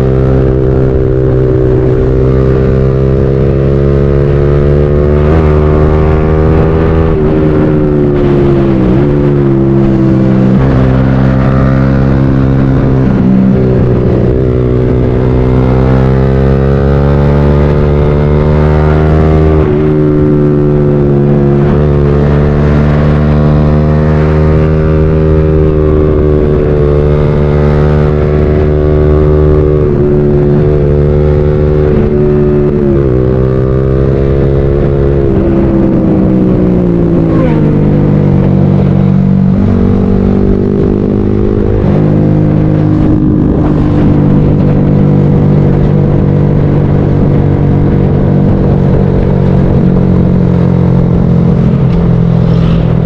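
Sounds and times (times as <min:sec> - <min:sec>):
motorcycle engine riding: 0:00.0 - 0:53.0.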